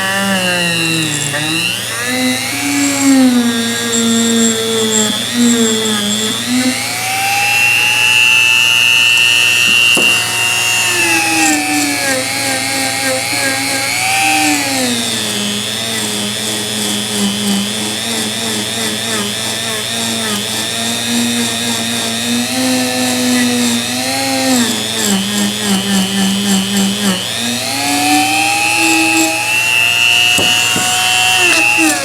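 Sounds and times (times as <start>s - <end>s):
rotary tool motor whine: 0.0s - 32.0s.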